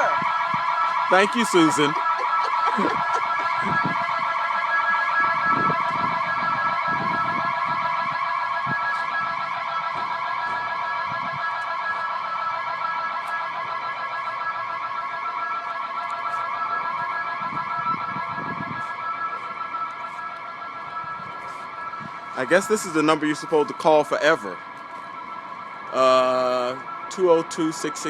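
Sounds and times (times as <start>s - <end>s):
security alarm ringing: 0.0s - 28.0s.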